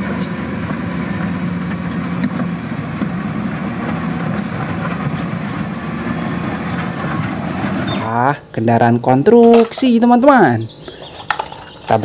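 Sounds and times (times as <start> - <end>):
loader bucket scraping rock: 0.0 - 8.4, 10.7 - 12.0
diesel engine running: 0.0 - 12.0.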